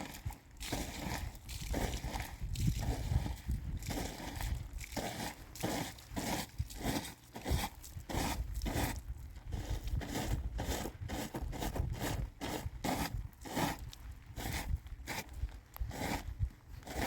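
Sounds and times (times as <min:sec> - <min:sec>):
shovel scraping wet snow: 0:00.0 - 0:17.0.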